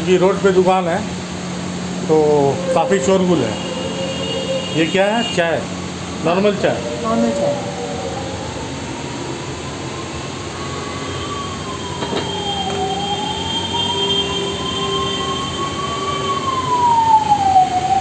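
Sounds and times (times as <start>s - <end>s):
road traffic noise: 0.0s - 18.0s
emergency siren wailing: 1.6s - 18.0s.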